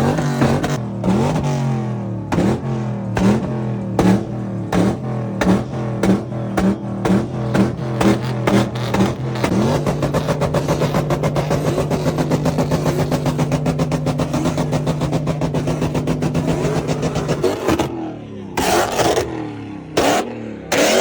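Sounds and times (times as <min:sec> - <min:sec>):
car engine at steady revs: 0:00.0 - 0:21.0.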